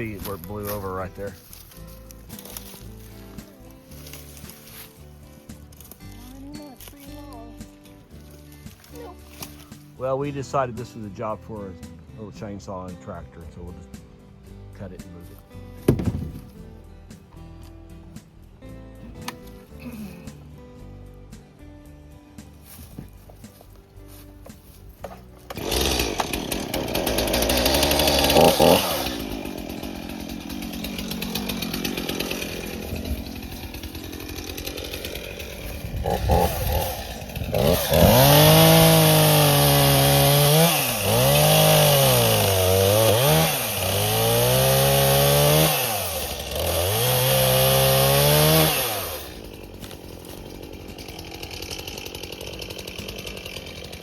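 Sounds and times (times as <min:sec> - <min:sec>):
chainsaw cutting wood: 0:00.0 - 0:11.3, 0:15.2 - 0:17.8, 0:19.0 - 0:20.8, 0:23.0 - 0:54.0.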